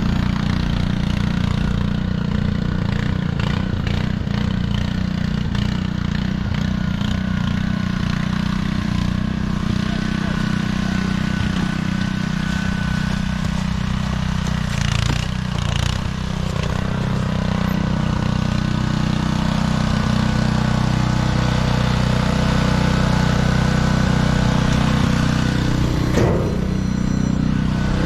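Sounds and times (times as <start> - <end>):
machine engine running: 0.0 - 28.0.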